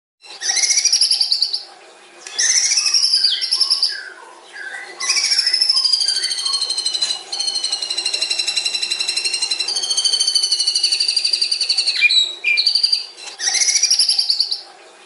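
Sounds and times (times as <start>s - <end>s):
songbird singing whistled phrases: 0.2s - 1.6s, 2.3s - 14.6s.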